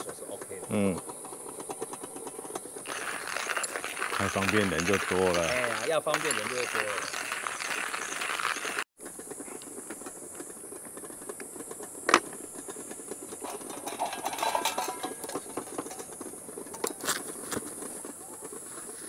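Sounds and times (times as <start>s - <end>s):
handling clicks and rattles: 0.0s - 19.0s
coffee grinder crunching beans: 0.1s - 10.5s, 12.0s - 19.0s.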